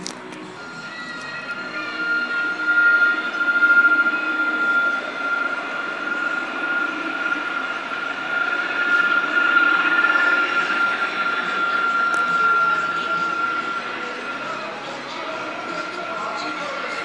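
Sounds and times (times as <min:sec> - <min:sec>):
tram passing with high whine: 0:00.0 - 0:17.0.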